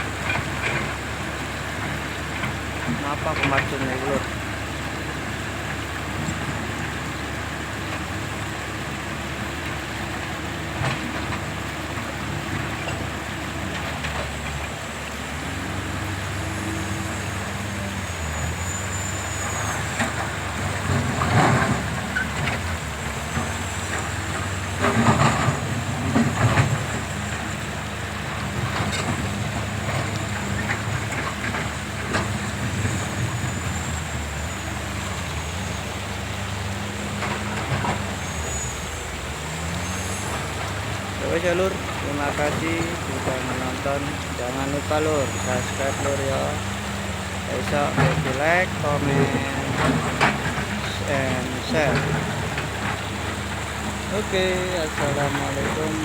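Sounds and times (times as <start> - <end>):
excavator bucket working: 0.0 - 56.0
excavator diesel engine running: 0.0 - 56.0.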